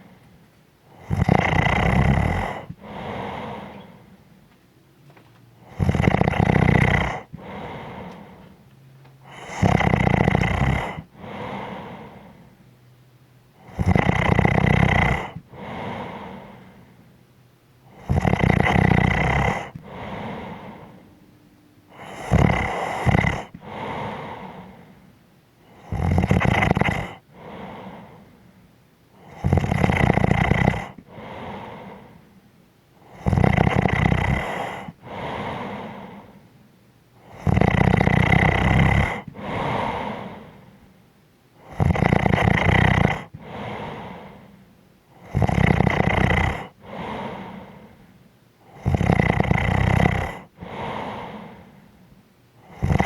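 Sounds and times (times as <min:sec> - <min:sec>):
person snoring: 0:00.9 - 0:04.2, 0:05.6 - 0:08.5, 0:09.2 - 0:12.5, 0:13.6 - 0:16.9, 0:17.9 - 0:21.0, 0:21.9 - 0:28.4, 0:29.2 - 0:32.3, 0:33.0 - 0:36.4, 0:37.2 - 0:40.8, 0:41.6 - 0:51.9, 0:52.6 - 0:53.0.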